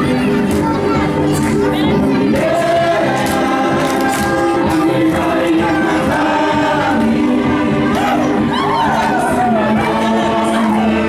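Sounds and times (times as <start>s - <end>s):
group singing: 2.0s - 11.0s.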